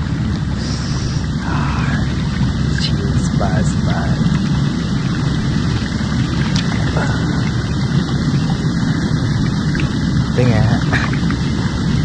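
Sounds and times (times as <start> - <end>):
jacuzzi jets churning water: 0.0 - 12.0.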